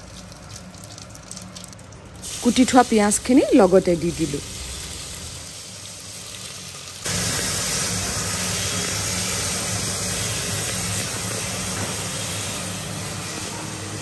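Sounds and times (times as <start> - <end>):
onions sizzling in oil: 2.2 - 14.0.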